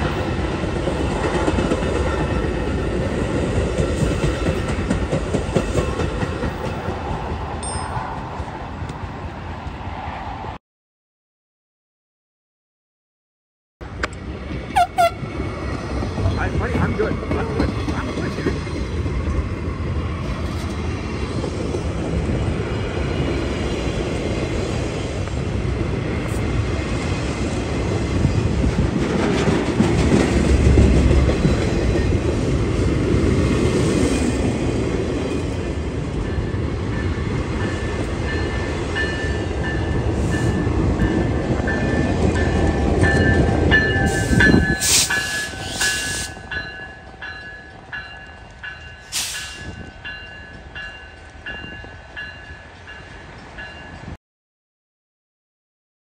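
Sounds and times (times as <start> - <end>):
train wheels rumbling: 0.0 - 9.8, 13.8 - 54.1.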